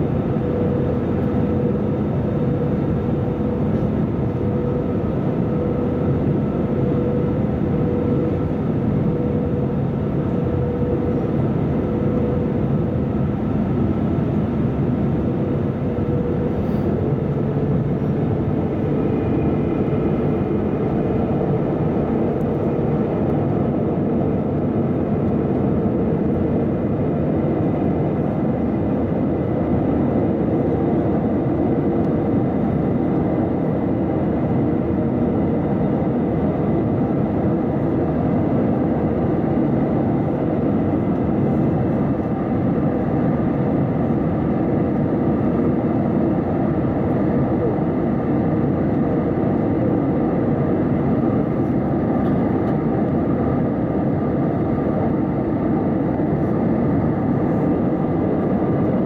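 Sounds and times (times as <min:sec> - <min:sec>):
aircraft cabin roar: 0:00.0 - 0:59.0
faint engine whine: 0:00.0 - 0:59.0.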